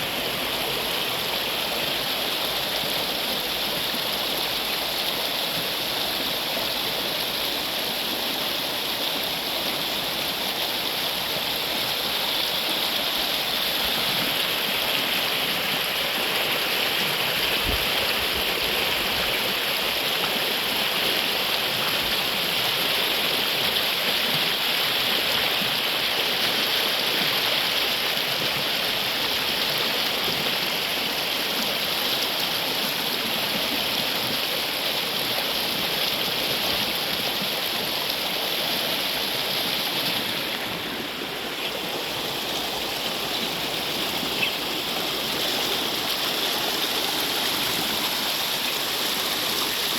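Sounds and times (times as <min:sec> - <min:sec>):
running water: 0:00.0 - 0:49.9.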